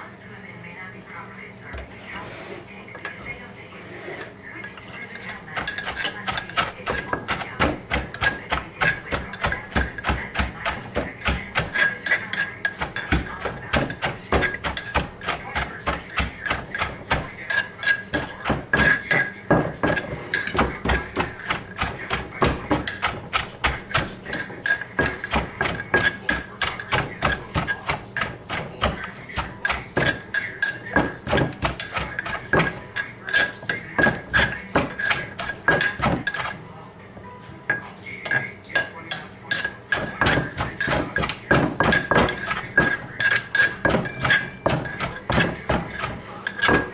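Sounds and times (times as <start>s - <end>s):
wooden pestle pounding in mortar: 5.2s - 36.6s, 39.9s - 46.9s.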